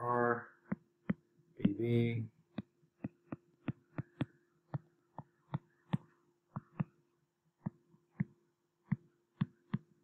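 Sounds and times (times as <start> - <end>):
faint steady hum: 0.0 - 10.0
stylus tapping on touchscreen: 0.6 - 7.0, 7.6 - 10.0.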